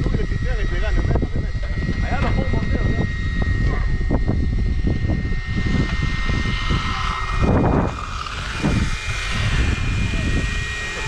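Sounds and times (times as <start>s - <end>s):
rc car motor whining: 0.0s - 11.0s
wind rumble on microphone: 0.0s - 11.0s.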